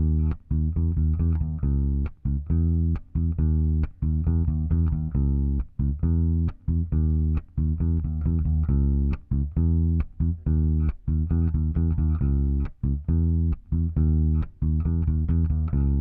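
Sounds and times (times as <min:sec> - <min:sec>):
electric bass guitar line: 0:00.0 - 0:16.0.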